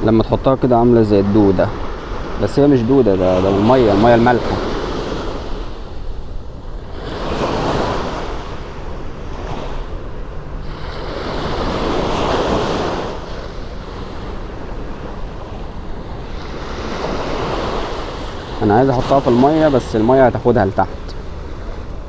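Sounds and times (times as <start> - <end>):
sea waves washing onto shore: 0.0 - 22.0
wind rumbling on microphone: 0.0 - 22.0.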